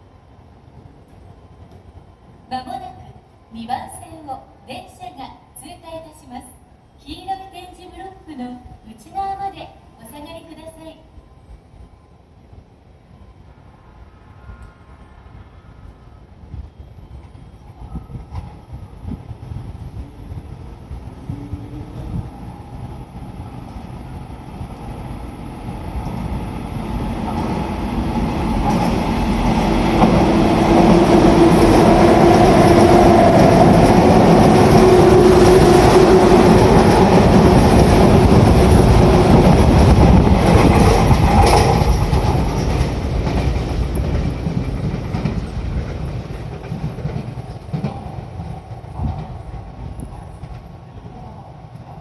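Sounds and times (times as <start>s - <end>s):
electric train passing at speed: 0.0s - 52.0s.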